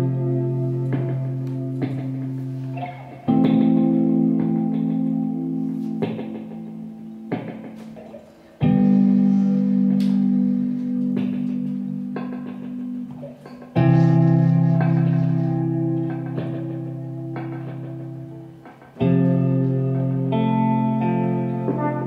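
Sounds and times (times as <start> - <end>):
electric guitar chords ringing: 0.0 - 22.0.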